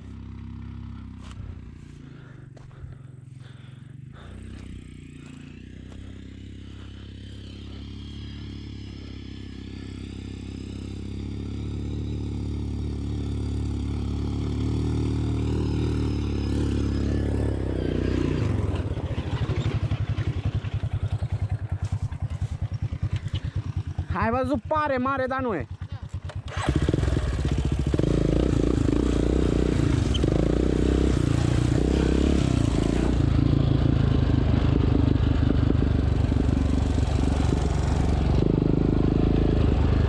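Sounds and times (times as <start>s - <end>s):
quad bike engine under load: 0.0s - 24.7s, 25.7s - 40.0s.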